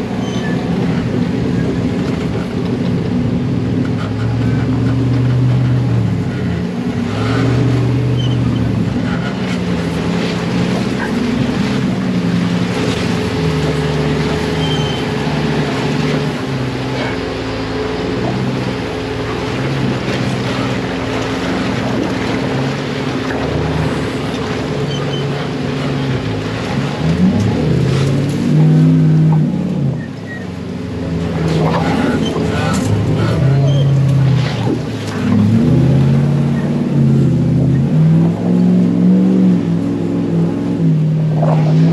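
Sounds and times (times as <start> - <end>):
tyres on dirt: 0.0 - 38.3
buggy engine running: 0.0 - 41.9
wind: 0.0 - 41.9.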